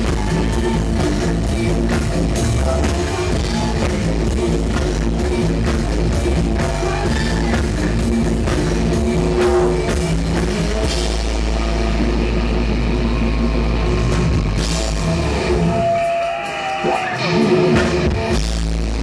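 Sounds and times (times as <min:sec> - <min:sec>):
bass guitar: 0:00.0 - 0:19.0
drum kit: 0:00.0 - 0:19.0
electric guitars: 0:00.0 - 0:19.0.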